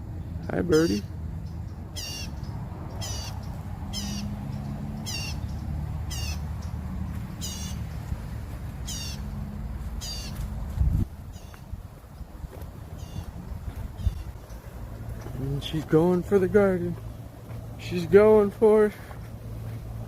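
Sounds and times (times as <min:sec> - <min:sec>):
bird calling: 0:00.2 - 0:10.5, 0:11.3 - 0:12.3, 0:12.9 - 0:19.3.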